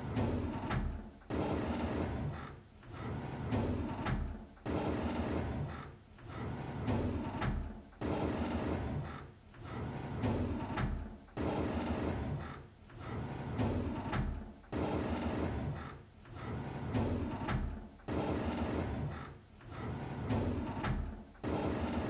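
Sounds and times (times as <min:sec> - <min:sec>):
drawer sliding open with rattling scrape: 0:00.0 - 0:22.0.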